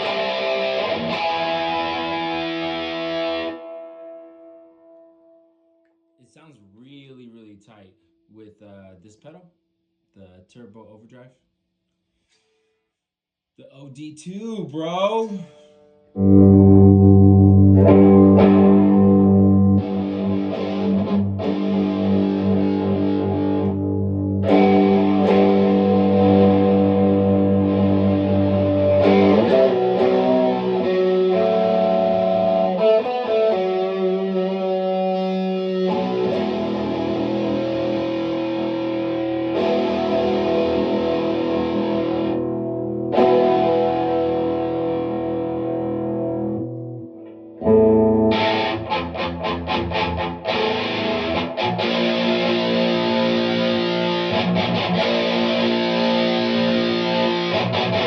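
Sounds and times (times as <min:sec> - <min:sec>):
distorted electric guitar: 0:00.0 - 0:05.2, 0:16.1 - 0:58.0.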